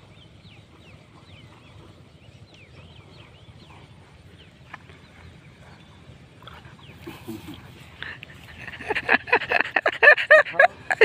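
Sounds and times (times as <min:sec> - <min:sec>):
birds chirping: 0:00.0 - 0:11.0
low steady rumble: 0:00.0 - 0:11.0.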